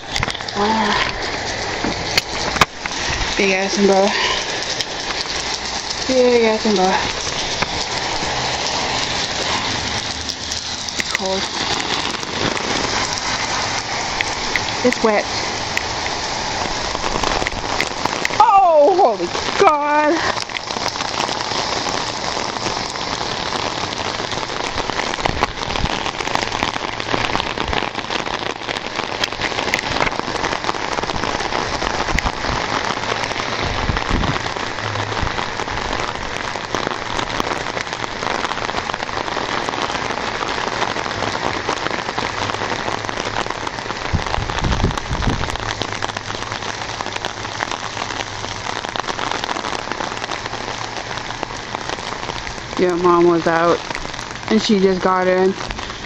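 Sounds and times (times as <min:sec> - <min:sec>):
rain on umbrella: 0:00.0 - 0:56.0.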